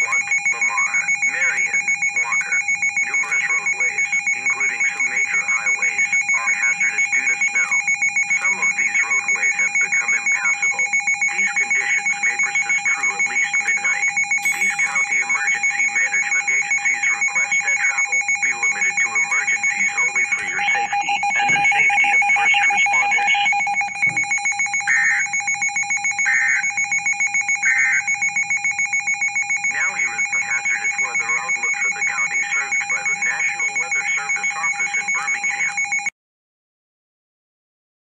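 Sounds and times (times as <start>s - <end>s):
pulsing two-pitch alarm tone: 0.0s - 36.1s.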